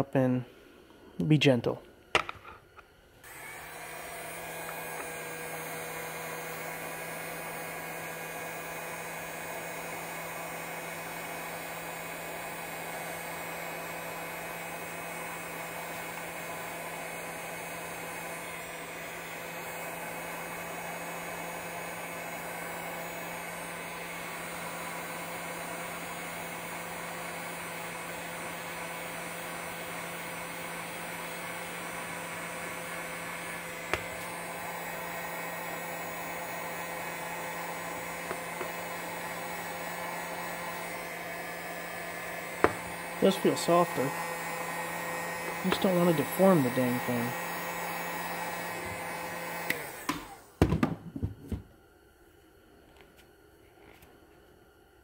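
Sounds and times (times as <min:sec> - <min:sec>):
heat gun fan humming: 0:00.0 - 0:51.8.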